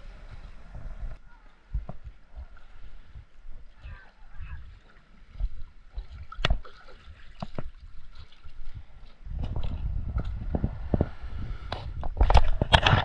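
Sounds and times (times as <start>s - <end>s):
water splashing around boat: 0.0s - 13.0s.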